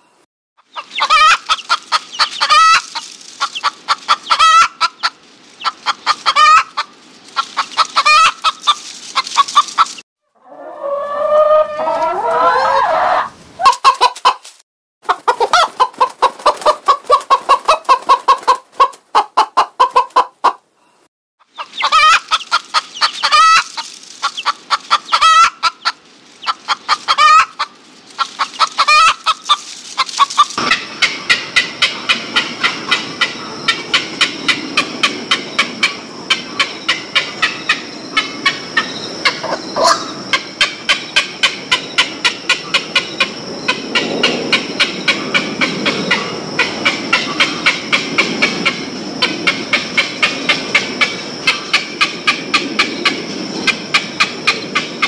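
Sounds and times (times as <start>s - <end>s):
hen clucking: 0.6s - 14.4s, 15.0s - 20.6s, 21.4s - 55.0s.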